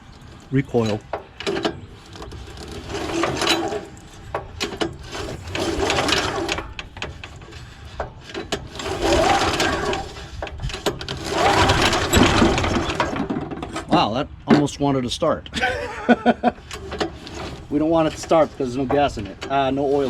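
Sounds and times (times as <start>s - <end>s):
engine recoil starter pulls cranking: 0.1s - 14.1s, 16.5s - 20.0s.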